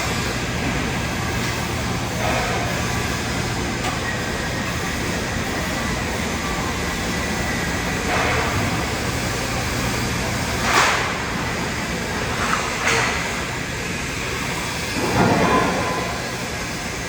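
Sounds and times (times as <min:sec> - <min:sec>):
welding arc hiss and hum: 0:00.0 - 0:17.0.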